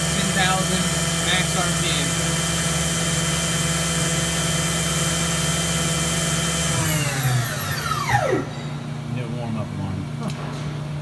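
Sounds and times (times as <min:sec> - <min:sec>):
machine spindle whine: 0:00.0 - 0:09.0.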